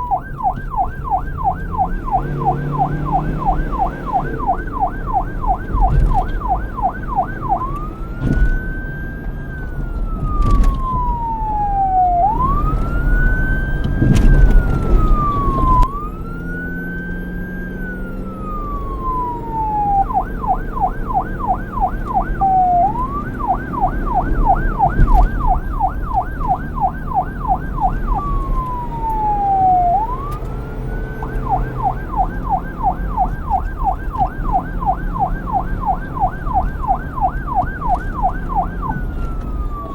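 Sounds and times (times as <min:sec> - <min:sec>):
police car siren: 0:00.0 - 0:39.9.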